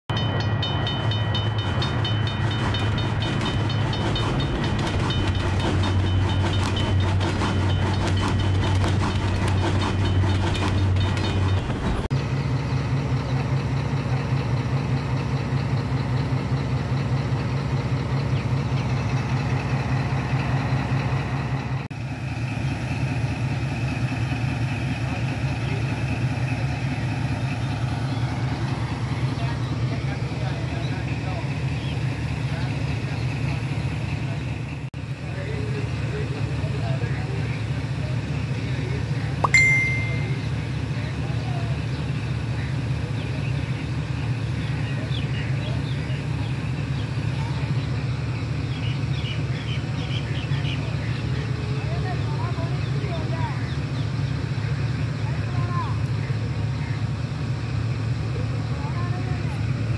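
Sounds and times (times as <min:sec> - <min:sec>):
diesel train passing: 0:00.1 - 0:59.9.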